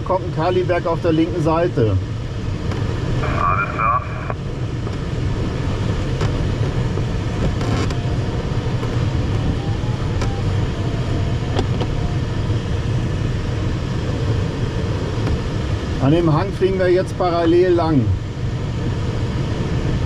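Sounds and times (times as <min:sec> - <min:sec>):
airflow rushing in cockpit: 0:00.0 - 0:20.0.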